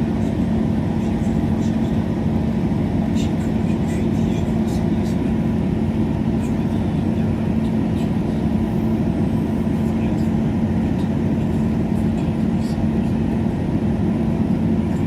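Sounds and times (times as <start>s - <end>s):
constant low hum: 0.0s - 15.0s
train running on rails: 0.0s - 15.0s.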